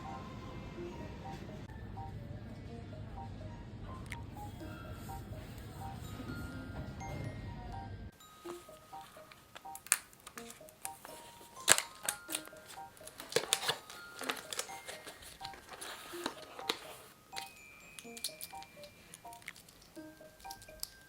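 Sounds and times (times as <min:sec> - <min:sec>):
soft melodic background music: 0:00.0 - 0:21.0.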